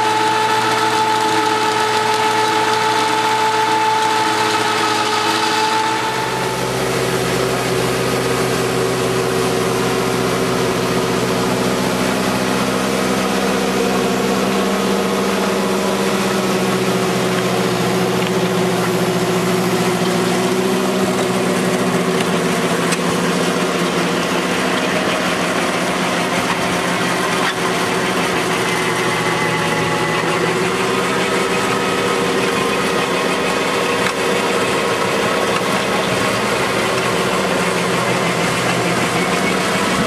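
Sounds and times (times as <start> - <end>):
stone crusher grinding gravel: 0.0 - 40.0
tractor engine running: 0.0 - 40.0.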